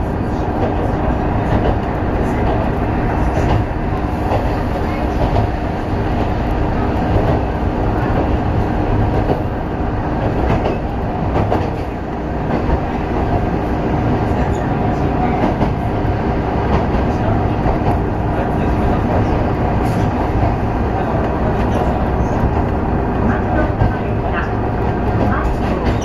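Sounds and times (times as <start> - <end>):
rumble of engine and wheels: 0.0 - 26.0.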